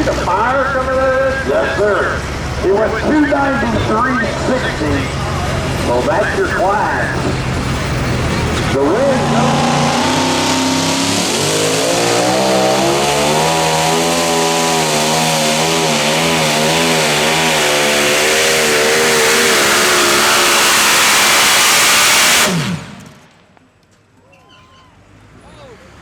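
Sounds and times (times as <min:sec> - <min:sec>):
engine running under load: 0:00.0 - 0:23.7
loud rushing noise: 0:02.2 - 0:23.4.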